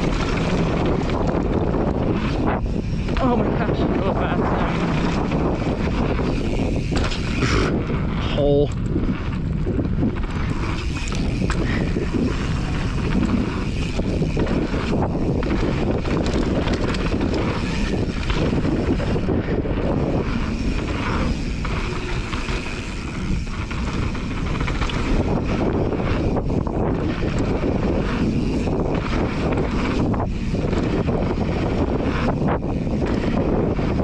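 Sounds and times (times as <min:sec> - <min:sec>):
bike rattling and clicking: 0:00.0 - 0:34.0
tyres rolling on dirt: 0:00.0 - 0:34.0
wind rushing over microphone: 0:00.0 - 0:34.0.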